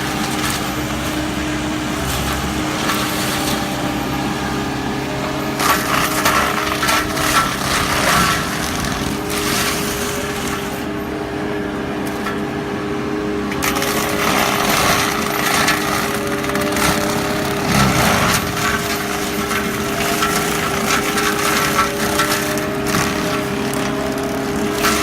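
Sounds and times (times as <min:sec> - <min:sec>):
wood crackling and crunching: 0:00.0 - 0:11.0, 0:13.4 - 0:25.0
mulching head humming: 0:00.0 - 0:25.0.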